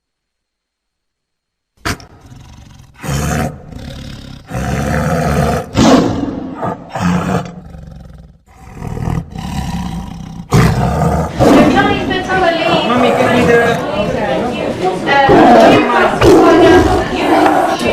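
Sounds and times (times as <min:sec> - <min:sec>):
tiger roaring: 0:01.8 - 0:14.2, 0:15.2 - 0:17.9.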